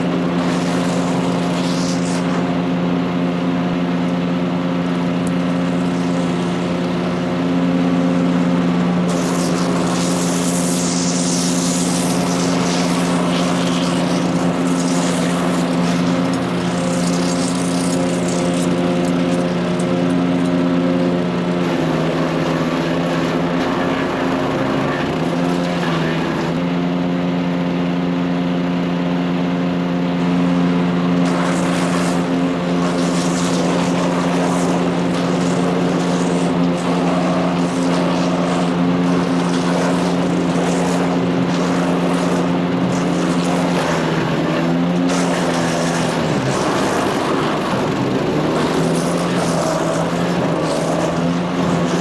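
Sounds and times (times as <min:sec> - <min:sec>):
gritty rattle: 0:00.0 - 0:02.8, 0:04.9 - 0:26.4, 0:30.2 - 0:52.0
engine running at high speed: 0:00.0 - 0:52.0.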